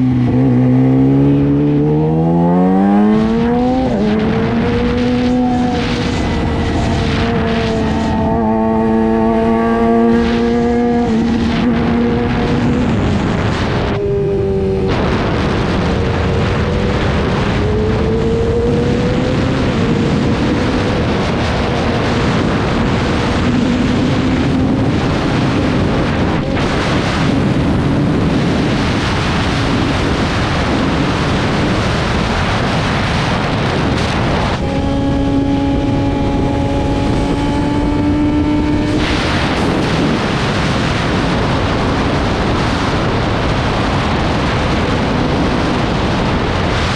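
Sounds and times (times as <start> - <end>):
motorcycle engine: 0.0 - 46.9
wind noise on microphone: 0.0 - 46.9.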